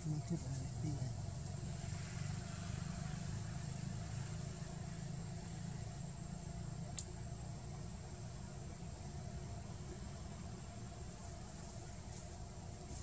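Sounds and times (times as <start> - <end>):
faint high whine: 0.0 - 13.0
low background rumble: 0.0 - 13.0.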